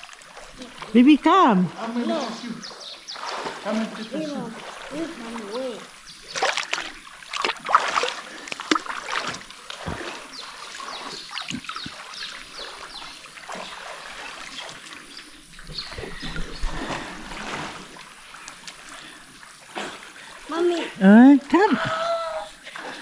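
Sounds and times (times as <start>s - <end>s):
water splashing in a pool: 0.0s - 23.0s.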